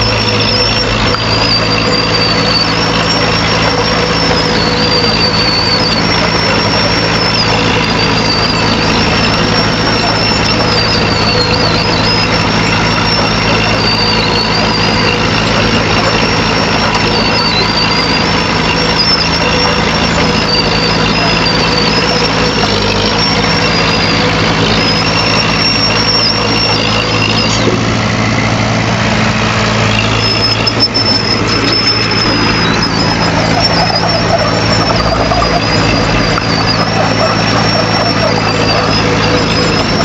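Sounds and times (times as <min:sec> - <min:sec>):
diesel machine engine running: 0:00.0 - 0:40.0
high wavering squeal: 0:00.0 - 0:40.0.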